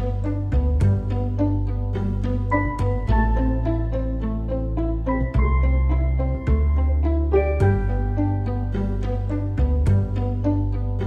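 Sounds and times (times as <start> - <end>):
light instrumental music: 0.0 - 11.0.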